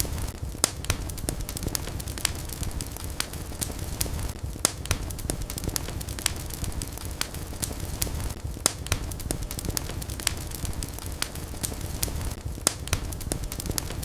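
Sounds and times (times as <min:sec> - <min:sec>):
low rumble of flames: 0:00.0 - 0:14.0
sharp pops of fire: 0:00.0 - 0:14.0
wood fire crackling: 0:00.0 - 0:14.0.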